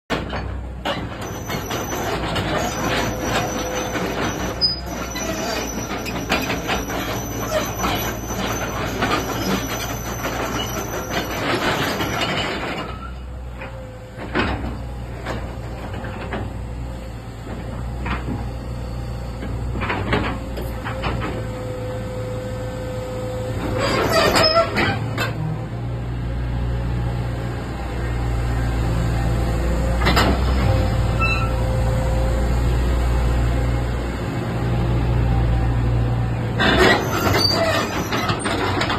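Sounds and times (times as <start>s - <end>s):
diesel engine running with whine: 0.6s - 38.9s.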